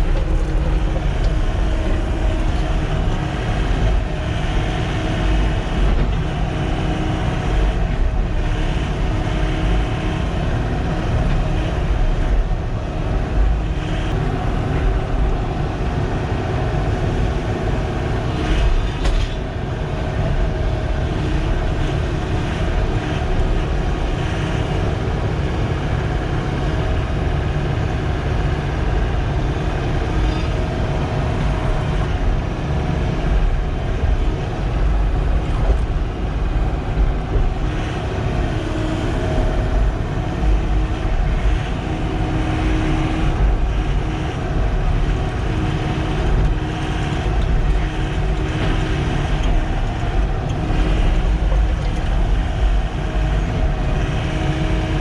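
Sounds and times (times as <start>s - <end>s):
excavator diesel engine rumbling: 0.0s - 55.0s.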